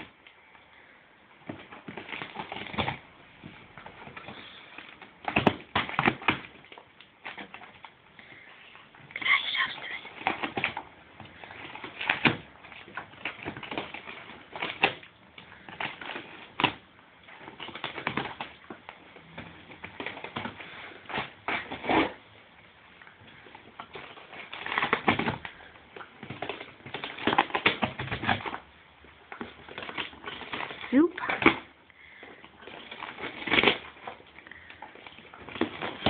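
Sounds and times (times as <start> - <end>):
dog tearing cardboard: 1.4 - 8.0, 10.1 - 22.2, 23.3 - 36.0.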